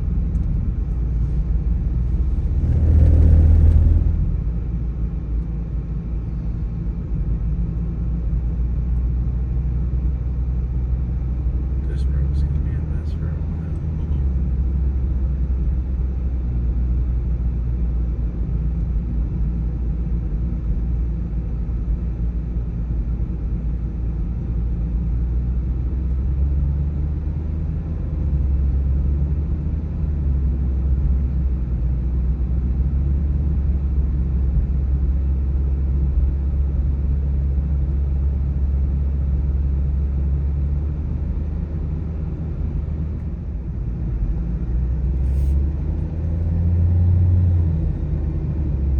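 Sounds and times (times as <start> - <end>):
car driving on road: 0.0 - 48.9.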